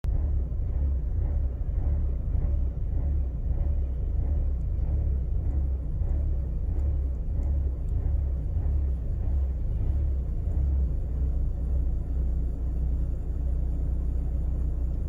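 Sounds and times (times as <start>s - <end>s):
car engine idling rough: 0.0s - 15.0s.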